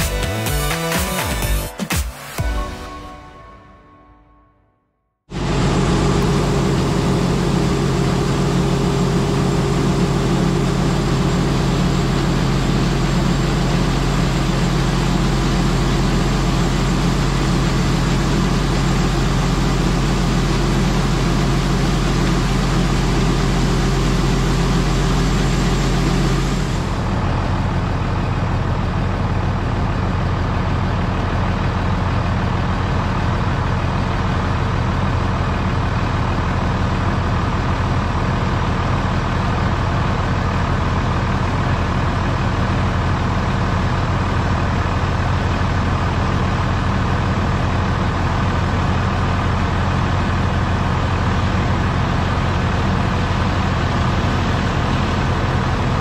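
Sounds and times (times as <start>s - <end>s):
tractor diesel engine running: 5.3s - 56.0s.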